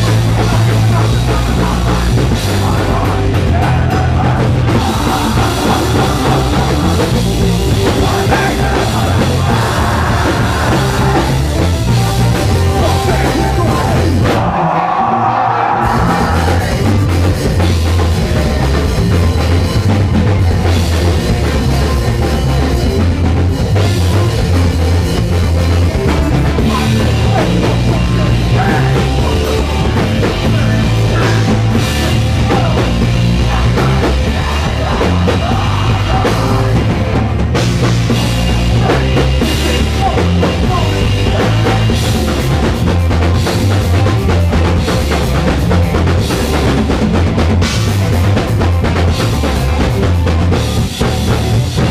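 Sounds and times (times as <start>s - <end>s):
heavy rock band playing: 0.0s - 51.9s.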